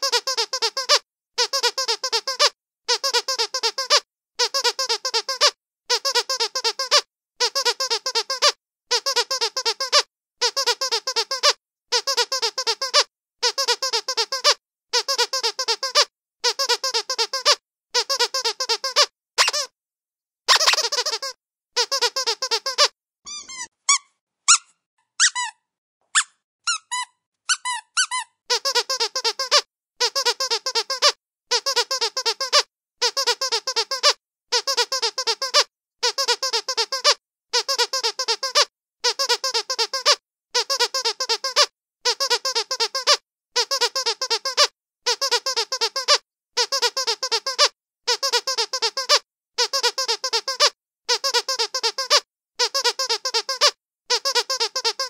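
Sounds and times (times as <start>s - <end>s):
squeaky dog toy squeaking: 0.0s - 19.7s, 20.5s - 55.0s.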